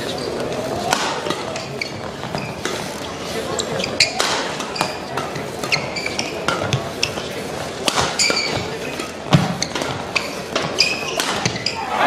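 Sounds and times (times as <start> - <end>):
hum of arena crowd: 0.0 - 12.0
rackets striking shuttlecock: 0.0 - 12.0
shoes squeaking on court: 0.0 - 12.0.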